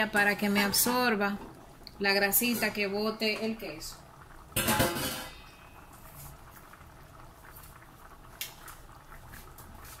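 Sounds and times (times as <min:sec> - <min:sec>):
broth bubbling in a pan: 0:00.0 - 0:10.0.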